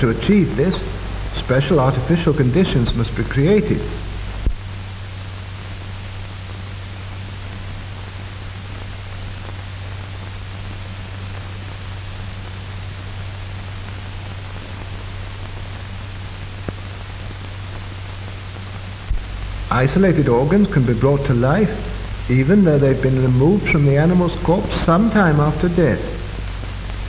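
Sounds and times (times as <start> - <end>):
film soundtrack hiss: 0.0 - 27.0
low hum: 0.0 - 27.0.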